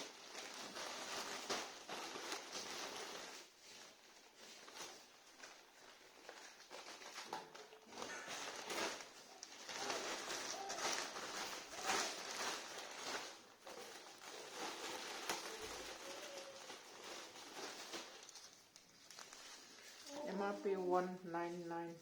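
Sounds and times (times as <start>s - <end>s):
rustling and handling noises: 0.0s - 22.0s.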